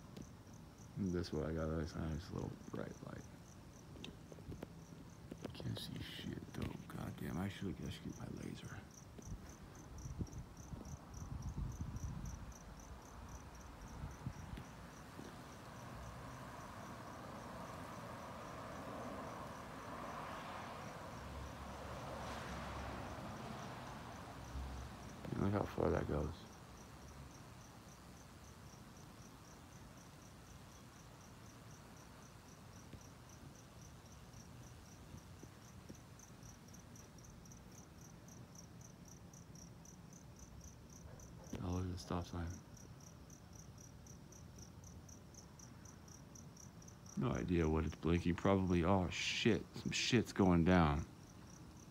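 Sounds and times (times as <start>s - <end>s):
cricket chirping: 0.0s - 51.9s.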